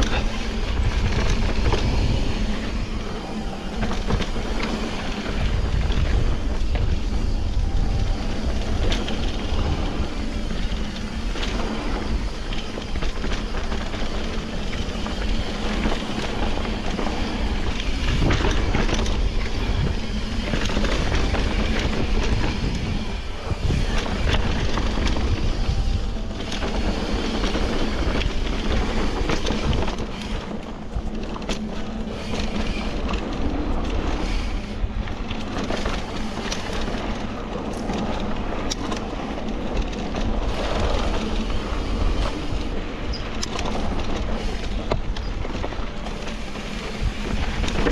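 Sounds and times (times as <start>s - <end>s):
small rattles and clicks: 0.0s - 47.9s
wind buffeting microphone: 0.0s - 47.9s.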